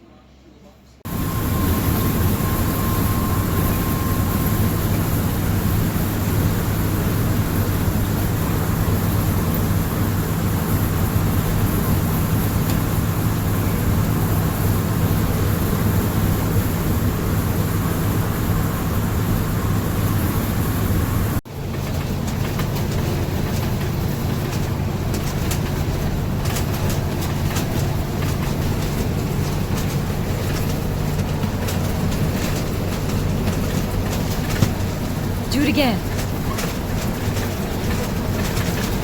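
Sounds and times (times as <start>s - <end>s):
road noise inside moving vehicle: 1.0s - 39.0s.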